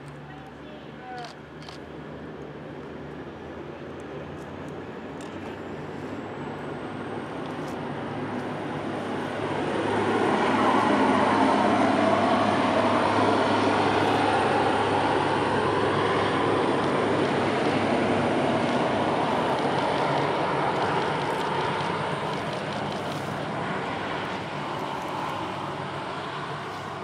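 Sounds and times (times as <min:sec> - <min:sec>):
train rumbling: 0:04.4 - 0:27.0.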